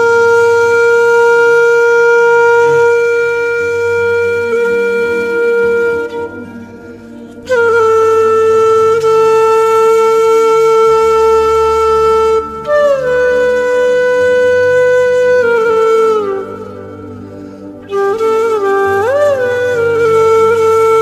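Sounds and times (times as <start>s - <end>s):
soft musical drone: 0.0s - 21.0s
wind instrument long notes: 0.0s - 21.0s.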